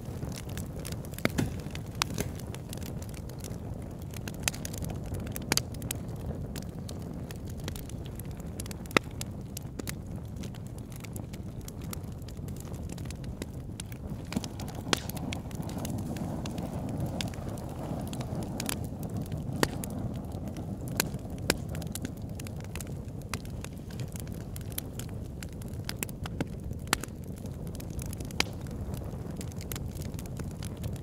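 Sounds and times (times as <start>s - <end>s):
fire pops: 0.0s - 31.0s
wind rumble on microphone: 0.0s - 31.0s
wood fire crackling: 0.0s - 31.0s.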